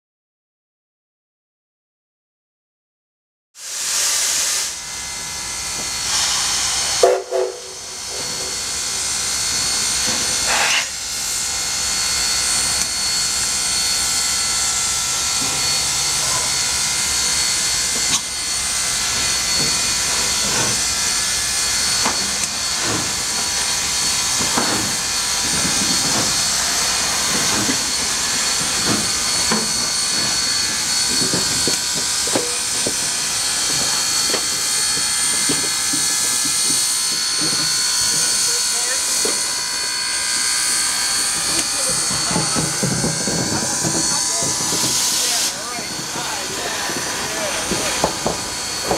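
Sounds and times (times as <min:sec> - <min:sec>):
loud steam burst: 0:03.6 - 0:11.4, 0:12.1 - 0:48.9
steam locomotive hissing: 0:03.6 - 0:48.9.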